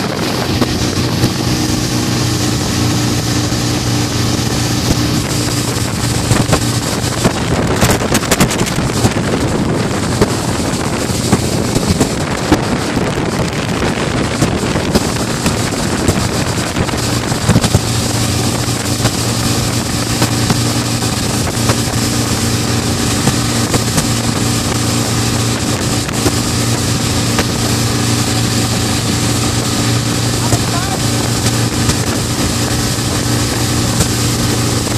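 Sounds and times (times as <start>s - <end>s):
outboard motor running: 0.0s - 34.9s
rushing wake water: 0.0s - 34.9s
wind on microphone: 0.0s - 34.9s.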